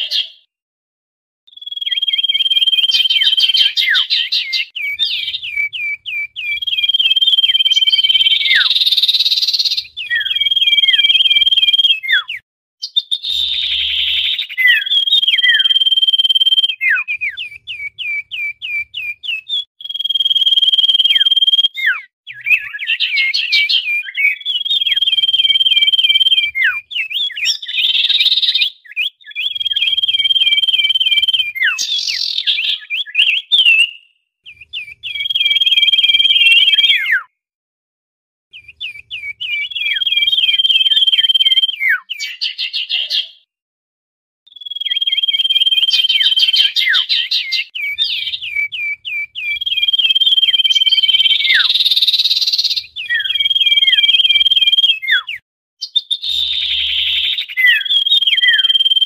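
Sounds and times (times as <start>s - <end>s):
bird whistling and chattering: 0.0s - 0.5s, 1.5s - 37.3s, 38.5s - 43.5s, 44.5s - 59.0s.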